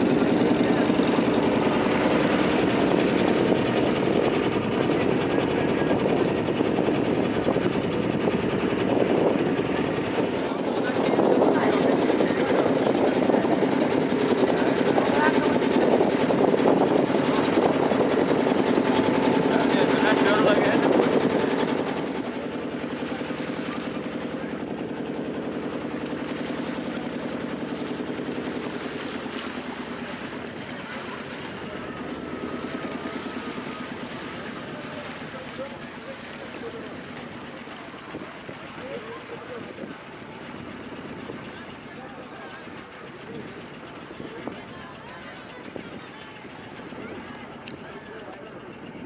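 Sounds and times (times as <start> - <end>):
motorboat engine running: 0.0 - 49.0.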